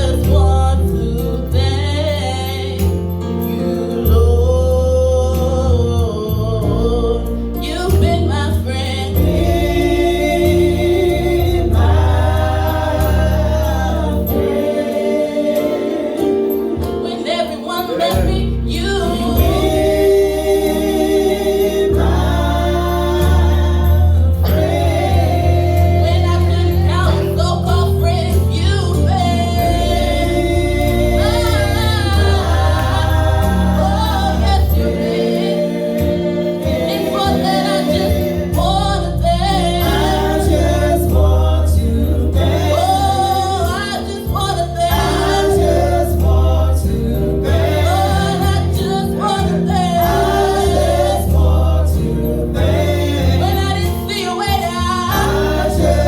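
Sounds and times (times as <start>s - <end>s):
sustained bass line: 0.0s - 3.4s, 4.0s - 15.0s, 18.1s - 56.0s
gospel choir singing: 0.0s - 56.0s
instrumental accompaniment: 7.3s - 56.0s.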